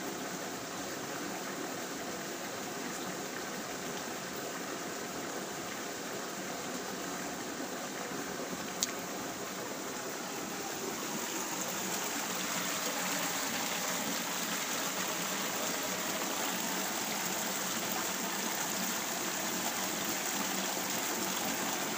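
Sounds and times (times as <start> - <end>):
stream running over stones: 0.0 - 21.9.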